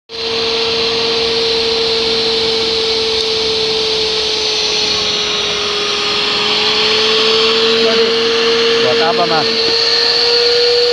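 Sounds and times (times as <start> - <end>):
pipe threading machine motor whine: 0.1 - 10.9.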